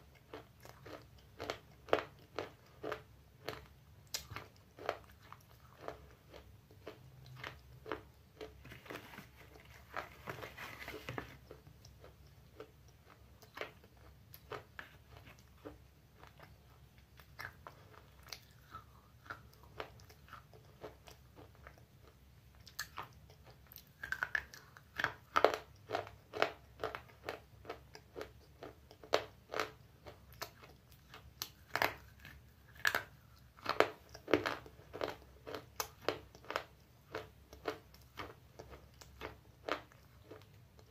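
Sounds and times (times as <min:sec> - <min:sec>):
chewing brittle clay crunches: 0:00.1 - 0:08.6, 0:11.4 - 0:40.9.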